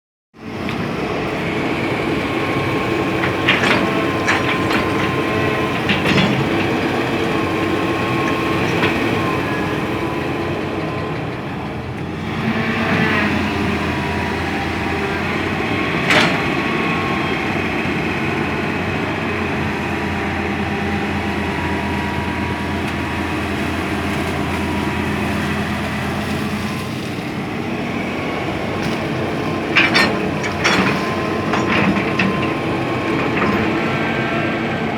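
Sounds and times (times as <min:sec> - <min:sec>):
excavator diesel engine whining: 0:00.4 - 0:34.9.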